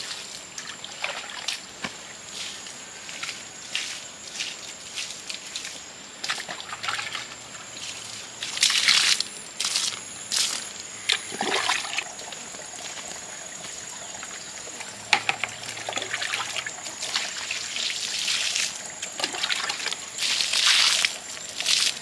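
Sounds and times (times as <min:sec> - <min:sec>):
water sloshing and trickling: 0:00.0 - 0:22.0.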